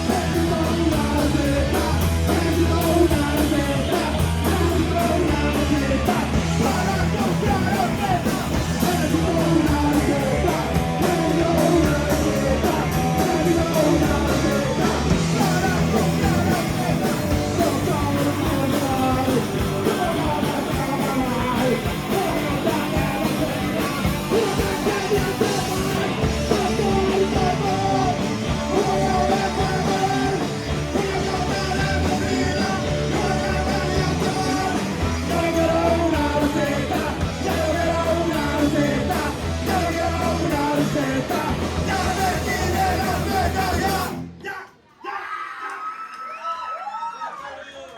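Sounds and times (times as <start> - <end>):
live rock band playing: 0.0 - 44.3
person singing: 0.0 - 44.6.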